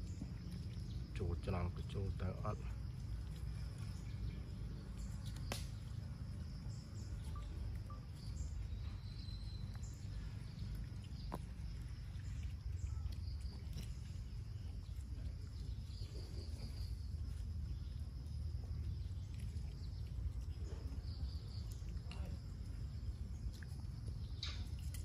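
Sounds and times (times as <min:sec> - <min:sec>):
insects buzzing: 0:00.0 - 0:25.0
steady low rumble: 0:00.0 - 0:25.0.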